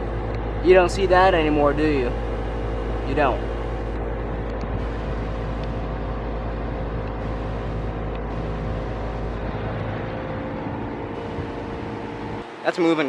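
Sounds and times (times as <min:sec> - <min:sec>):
compressor hum: 0:00.0 - 0:13.0
condenser fan moving air: 0:00.0 - 0:13.0.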